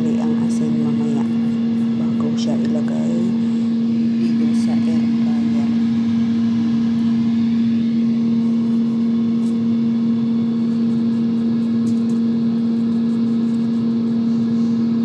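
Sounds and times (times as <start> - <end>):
air fryer fan hum: 0.0 - 15.0.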